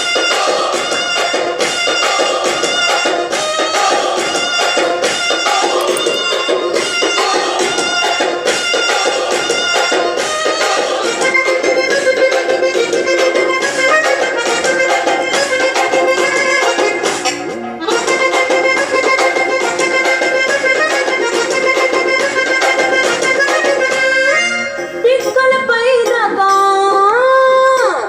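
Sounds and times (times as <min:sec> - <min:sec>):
song through small speaker: 0:00.0 - 0:28.0.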